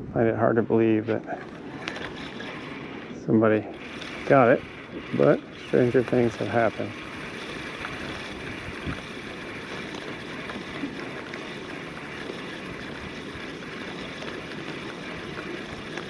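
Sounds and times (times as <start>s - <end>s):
wind: 0.0s - 16.0s
fishing reel cranking: 1.2s - 16.0s.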